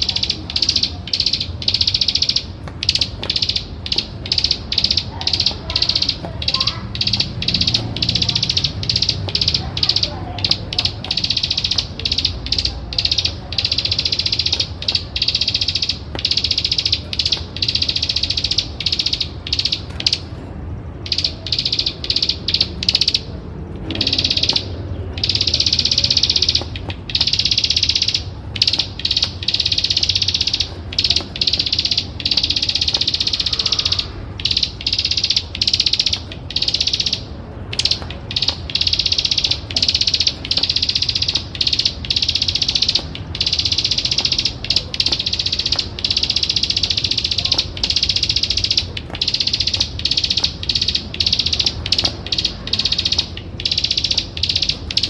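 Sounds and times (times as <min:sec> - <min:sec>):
bird clicking trill: 0:00.0 - 0:55.0.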